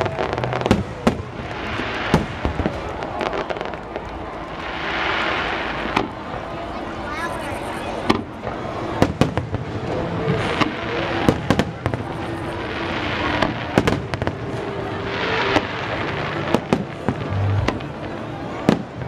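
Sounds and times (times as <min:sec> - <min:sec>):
continuous noisy din: 0:00.0 - 0:19.0
fireworks bursting: 0:00.0 - 0:19.0.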